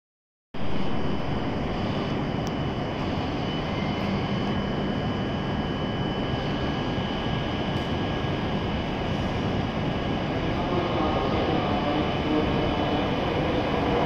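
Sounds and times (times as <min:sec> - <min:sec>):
train approaching with rumbling hiss: 0:00.6 - 0:14.0.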